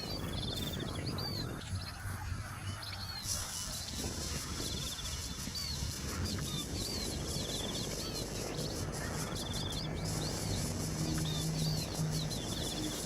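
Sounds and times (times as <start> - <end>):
small birds chirping: 0.0 - 13.0
steady low background noise: 0.0 - 13.0.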